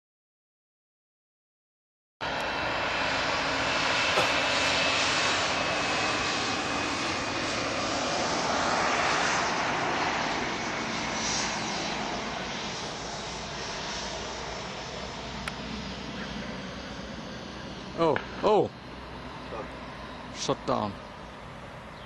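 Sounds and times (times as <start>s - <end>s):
airplane engines passing: 2.2s - 22.0s.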